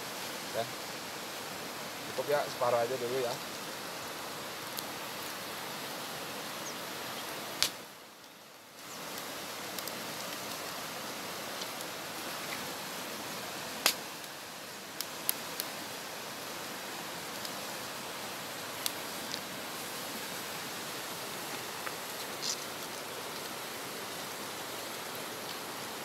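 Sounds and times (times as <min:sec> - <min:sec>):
flowing river water: 0:00.0 - 0:26.0
wood fire popping: 0:01.9 - 0:06.6, 0:07.2 - 0:26.0.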